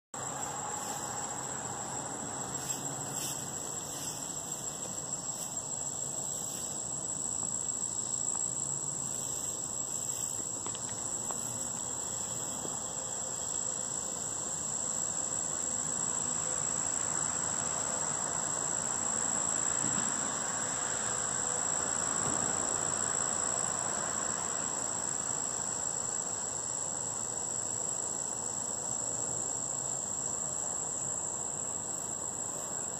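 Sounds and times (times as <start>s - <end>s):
insects trilling: 0.2s - 32.9s.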